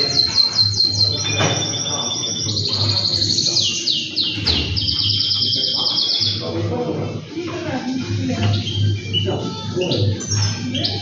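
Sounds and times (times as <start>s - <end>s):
canary singing trills: 0.0s - 7.3s, 7.9s - 11.0s.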